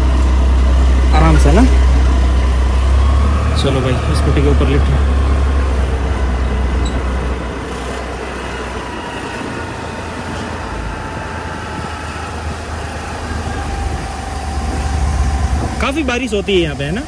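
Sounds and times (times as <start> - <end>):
thin falling whine: 0.0 - 16.0
motor scooter engine: 0.0 - 17.0
road noise: 0.0 - 17.0.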